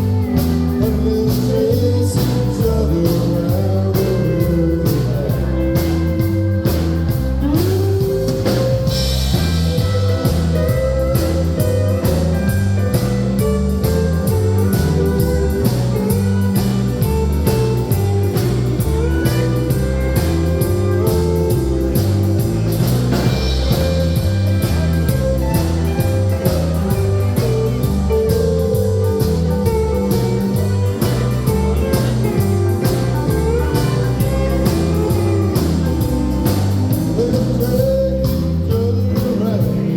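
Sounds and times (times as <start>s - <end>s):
bass guitar: 0.0s - 39.9s
drum kit: 0.0s - 39.9s
guitar lines: 0.0s - 39.9s.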